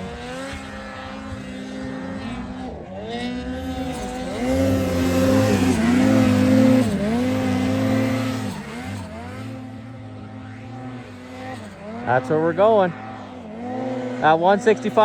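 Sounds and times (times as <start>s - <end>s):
snowmobile engine under hard throttle: 0.0s - 15.0s.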